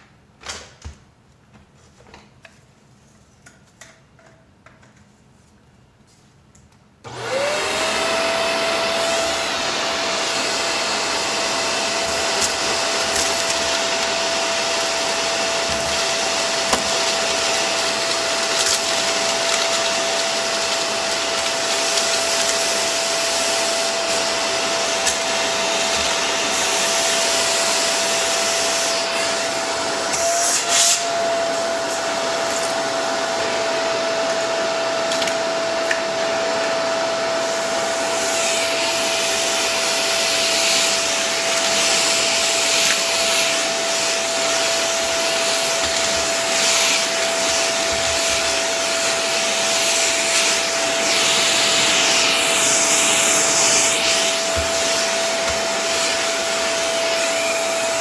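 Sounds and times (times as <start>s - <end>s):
vacuum cleaner whine: 7.0s - 58.0s.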